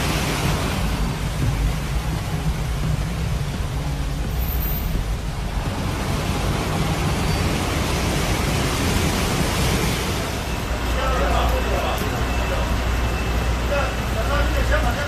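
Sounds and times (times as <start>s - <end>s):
heavy rain and floodwater rushing: 0.0s - 15.0s
low vehicle rumble: 0.0s - 15.0s.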